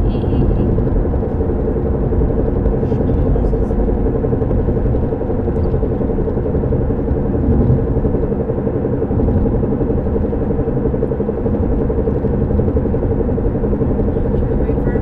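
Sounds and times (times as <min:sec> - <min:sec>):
road rumble: 0:00.0 - 0:15.0
wobbling wheel hum: 0:00.0 - 0:15.0.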